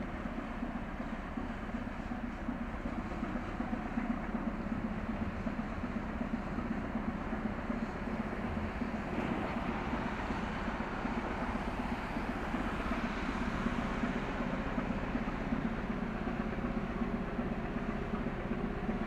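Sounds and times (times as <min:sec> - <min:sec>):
ship engine droning: 0:00.0 - 0:19.0
water rushing from bow wave: 0:00.0 - 0:19.0.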